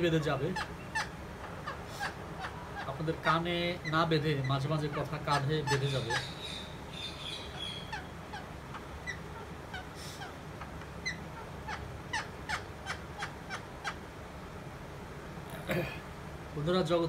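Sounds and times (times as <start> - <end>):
parakeet chirping: 0.0 - 14.0.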